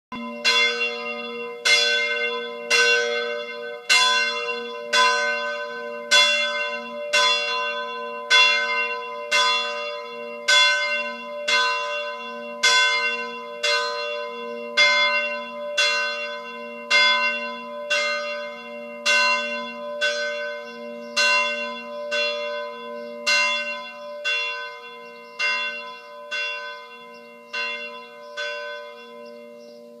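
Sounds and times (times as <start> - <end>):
bell tower bell ringing: 0.1 - 30.0.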